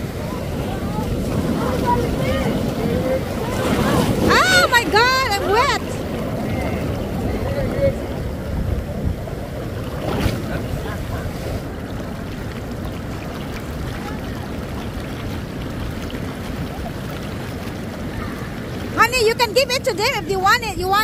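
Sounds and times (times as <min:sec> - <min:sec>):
wind on microphone: 0:00.0 - 0:19.6
surf swirling around legs: 0:00.0 - 0:21.0.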